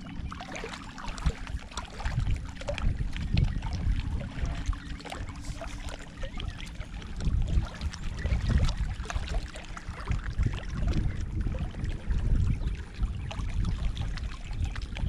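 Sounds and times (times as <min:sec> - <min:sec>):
lapping water: 0:00.0 - 0:15.0
gusty wind rumble: 0:01.1 - 0:15.0.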